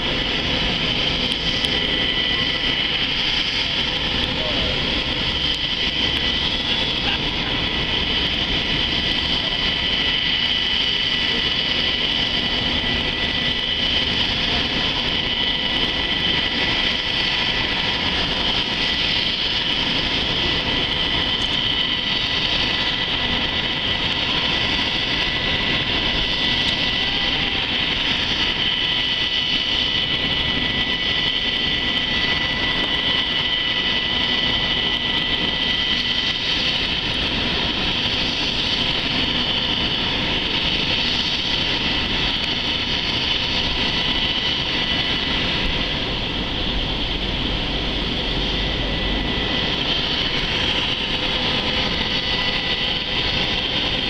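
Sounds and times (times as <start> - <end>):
helicopter turbines whining: 0.0 - 54.0.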